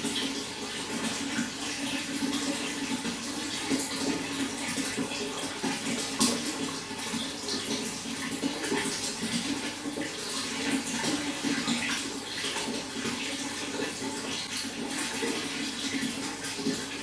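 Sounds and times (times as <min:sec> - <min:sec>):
small water splashes: 0:00.0 - 0:17.0
water running: 0:00.0 - 0:17.0.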